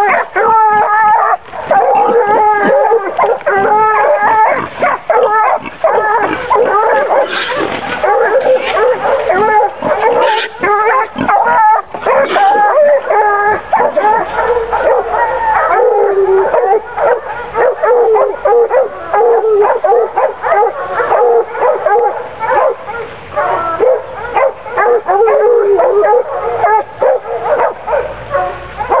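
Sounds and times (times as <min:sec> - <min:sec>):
hounds barking: 0:00.0 - 0:29.0.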